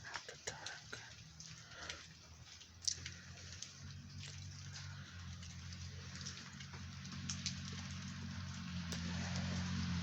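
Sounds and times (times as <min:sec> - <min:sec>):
scattered drips: 0:00.0 - 0:09.6
steady rain falling: 0:00.0 - 0:10.0.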